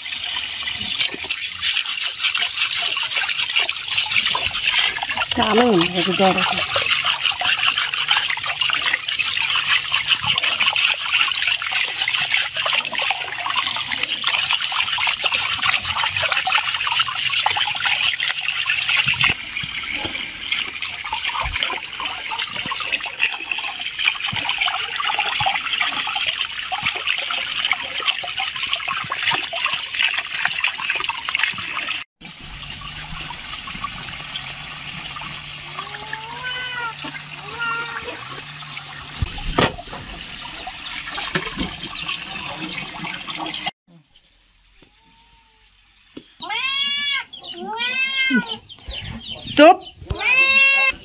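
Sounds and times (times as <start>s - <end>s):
water pouring into steel basin: 0.0s - 43.7s.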